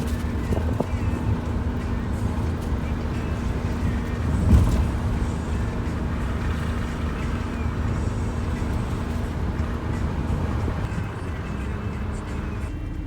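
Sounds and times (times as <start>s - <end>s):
road vehicle rumbling: 0.0s - 13.0s.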